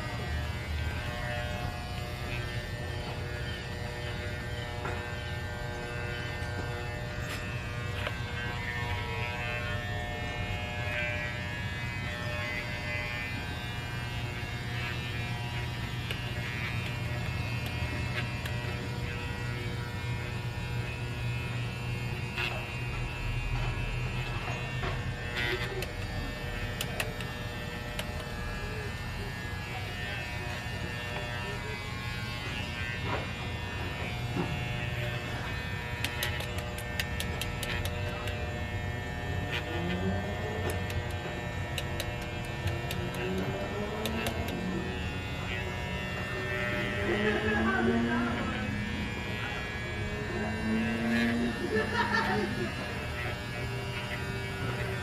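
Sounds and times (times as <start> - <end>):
electric pet clippers buzzing: 0.0 - 55.0.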